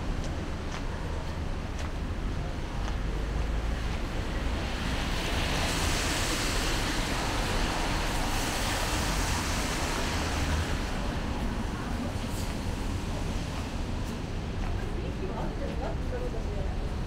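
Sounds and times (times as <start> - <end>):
street noise rumble and hiss: 0.0 - 17.0.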